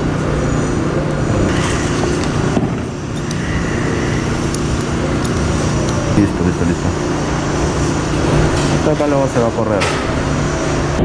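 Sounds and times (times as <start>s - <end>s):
machine drone: 0.0s - 11.0s.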